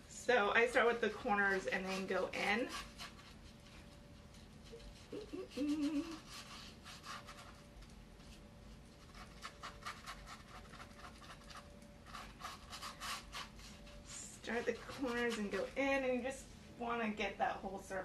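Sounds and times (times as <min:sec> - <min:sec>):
stiff brush scrubbing canvas: 0:00.8 - 0:07.6, 0:08.3 - 0:15.9.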